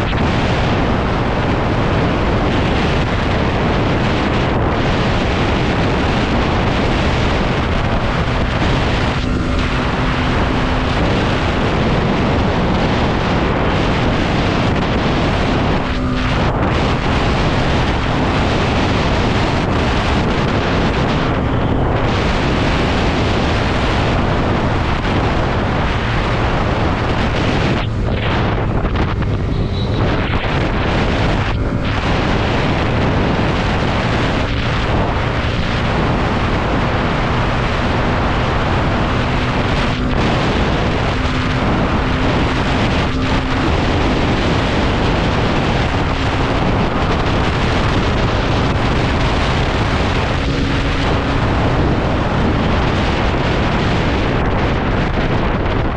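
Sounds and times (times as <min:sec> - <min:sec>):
wind buffeting on microphone: 0:00.0 - 0:55.9.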